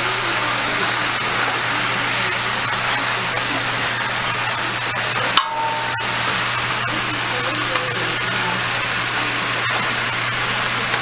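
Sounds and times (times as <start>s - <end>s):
faint background voices: 0.0s - 11.0s
meat sizzling on a griddle: 0.0s - 11.0s.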